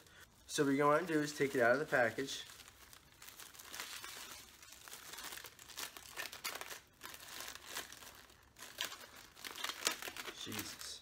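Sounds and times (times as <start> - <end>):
plastic packaging crinkling: 0.4 - 11.0.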